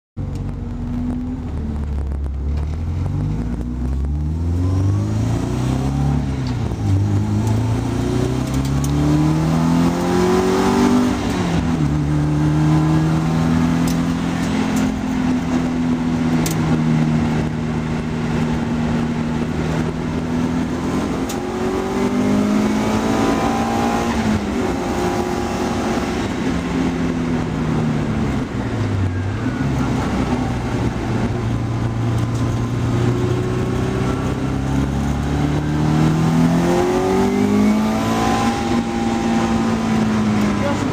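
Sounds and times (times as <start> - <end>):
car engine revving through gears: 0.2 - 40.9.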